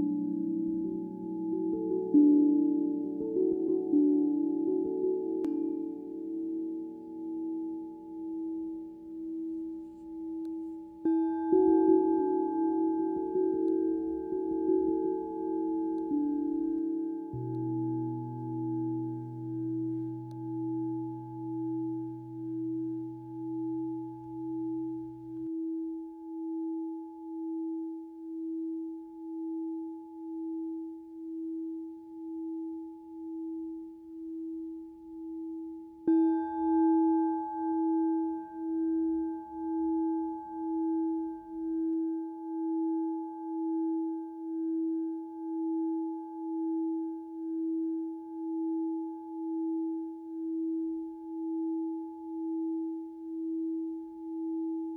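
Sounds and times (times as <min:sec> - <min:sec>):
low tone: 0:00.0 - 0:54.9
singing bowl ringing: 0:00.0 - 0:54.9.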